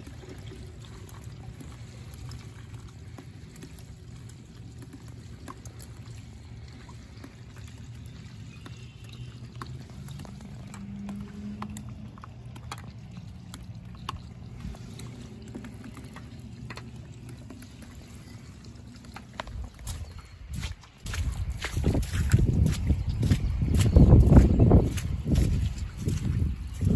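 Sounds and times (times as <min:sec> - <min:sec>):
water drips and splashes: 0:00.0 - 0:26.9
water pouring and trickling: 0:00.0 - 0:26.9.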